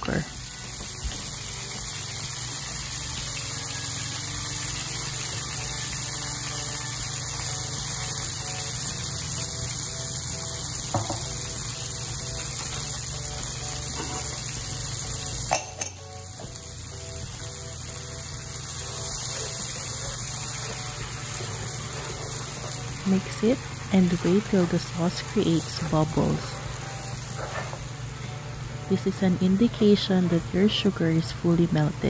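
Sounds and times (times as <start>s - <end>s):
sauce sizzling in a frying pan: 0.0s - 32.0s.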